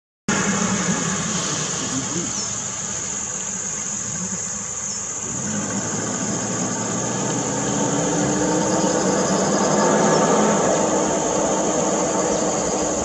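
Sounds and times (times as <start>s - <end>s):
high insect drone: 0.3s - 13.0s
vehicle engine running: 0.3s - 13.0s.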